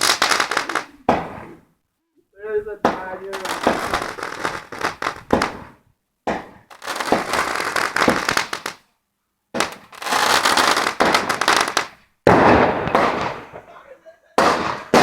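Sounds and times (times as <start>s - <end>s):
fireworks crackling bangs: 0.0s - 1.7s, 2.6s - 8.9s, 9.5s - 15.0s.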